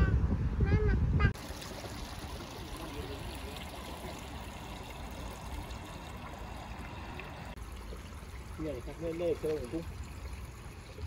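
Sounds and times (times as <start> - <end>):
water trickling and splashing: 1.4 - 11.0.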